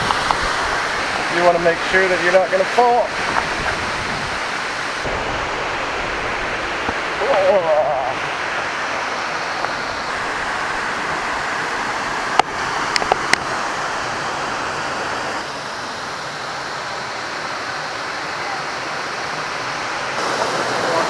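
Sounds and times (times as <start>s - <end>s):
waterfall and rapids rushing: 0.0s - 21.0s.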